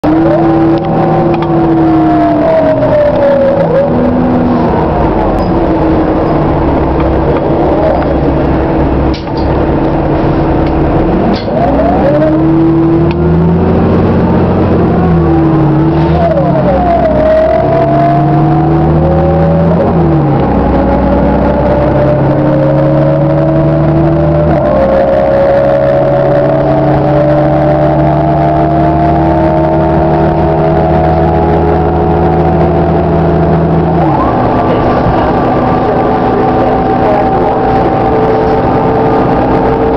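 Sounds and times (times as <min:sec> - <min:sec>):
bus engine accelerating: 0:00.0 - 0:39.9.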